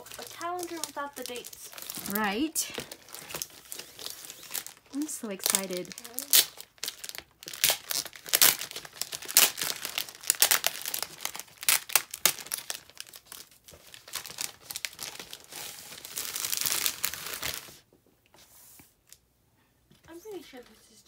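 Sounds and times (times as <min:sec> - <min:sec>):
plastic wrapping crinkling: 0:00.0 - 0:17.8.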